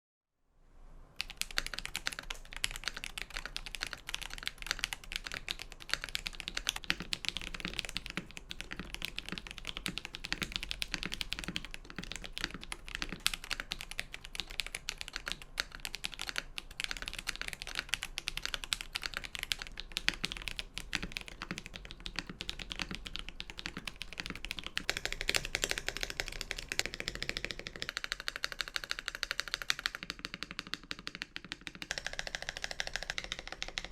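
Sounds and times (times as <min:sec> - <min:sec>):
mechanical keyboard typing: 0:01.2 - 0:33.9.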